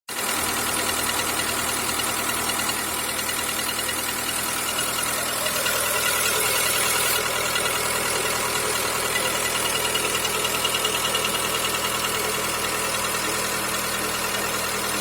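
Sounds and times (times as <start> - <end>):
car engine idling with knock: 0.1 - 15.0.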